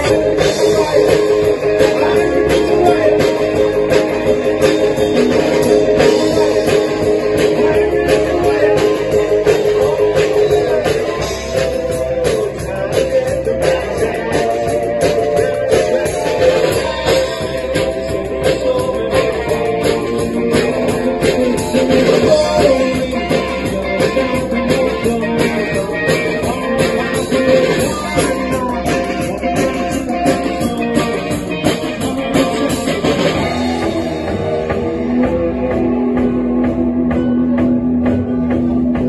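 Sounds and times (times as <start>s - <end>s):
bass guitar: 0.0s - 39.0s
drum kit: 0.0s - 39.0s
person singing: 0.0s - 39.0s.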